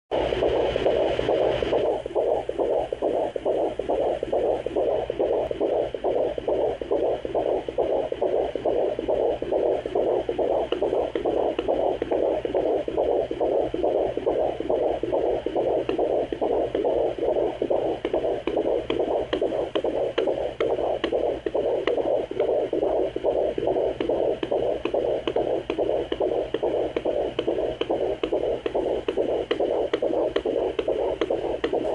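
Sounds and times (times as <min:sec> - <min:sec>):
fetal heartbeat on doppler: 0:00.1 - 0:31.9.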